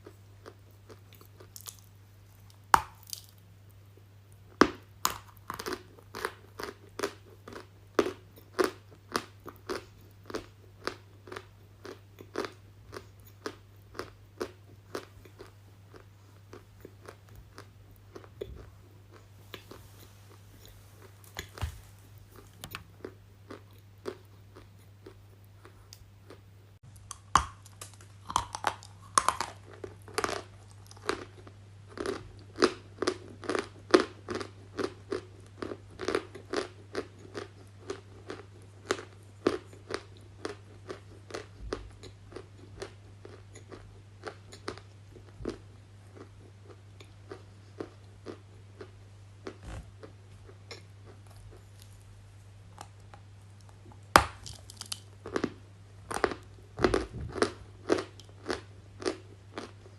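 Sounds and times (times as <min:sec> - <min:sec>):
crisp chewing crunches: 0:00.0 - 0:03.4, 0:04.5 - 0:26.4, 0:27.0 - 0:52.1, 0:52.8 - 0:59.9
steady low hum: 0:00.0 - 0:59.9.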